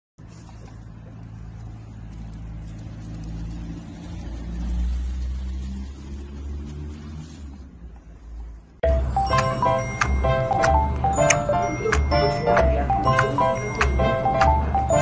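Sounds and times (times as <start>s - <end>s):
vehicle engine humming: 0.2s - 15.0s.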